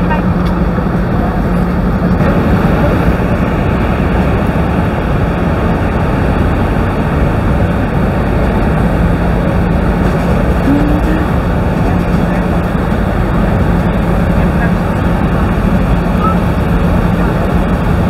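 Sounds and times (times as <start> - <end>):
boat engine droning faintly: 0.0 - 18.0
waterfall roaring: 2.2 - 18.0.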